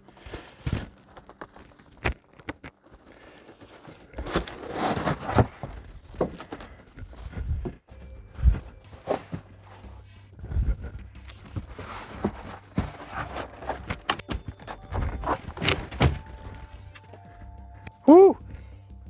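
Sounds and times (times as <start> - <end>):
cardboard scraping and rustling: 0.0 - 17.1
footsteps: 0.0 - 17.5.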